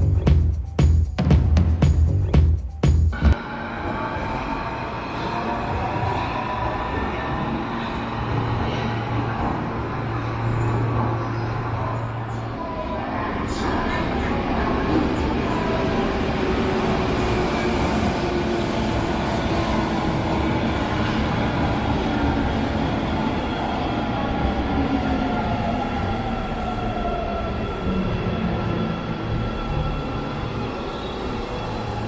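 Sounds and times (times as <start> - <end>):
subway train rumbling: 3.1 - 32.0.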